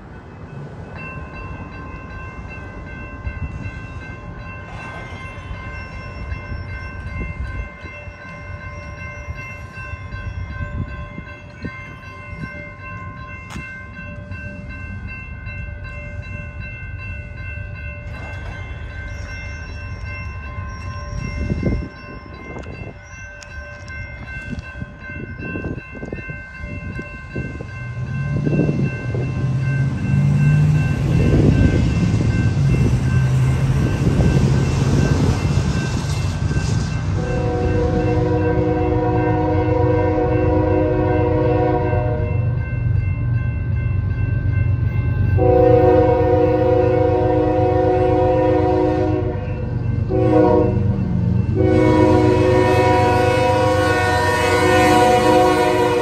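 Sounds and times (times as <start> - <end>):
crossing warning bell ringing: 0.0 - 56.0
low train rumble: 0.0 - 56.0.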